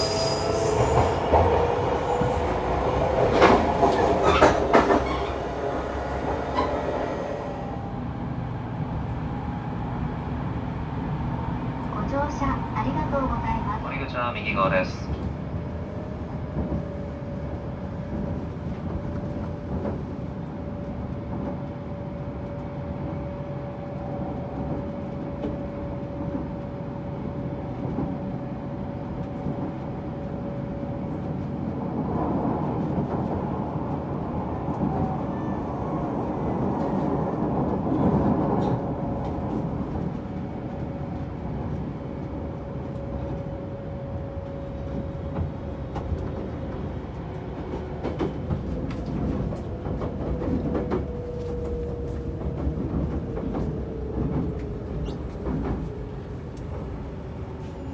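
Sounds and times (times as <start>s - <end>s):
train rolling rumble: 0.0s - 57.9s.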